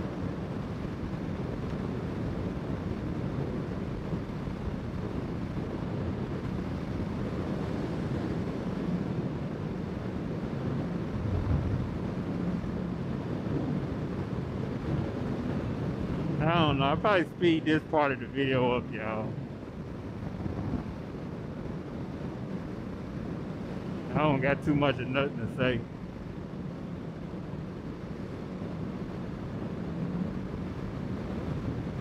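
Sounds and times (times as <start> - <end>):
wind rush on microphone: 0.0 - 32.0.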